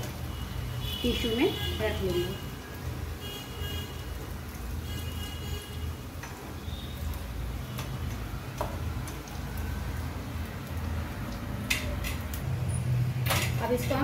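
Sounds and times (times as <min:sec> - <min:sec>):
oil crackling: 0:00.0 - 0:14.0.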